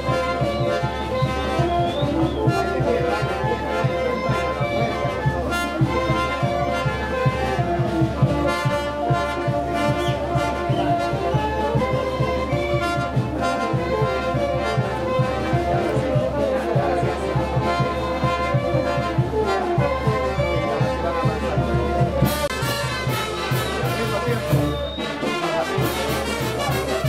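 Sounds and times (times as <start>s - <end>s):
brass band playing: 0.0s - 27.0s
drum beat: 0.0s - 27.0s.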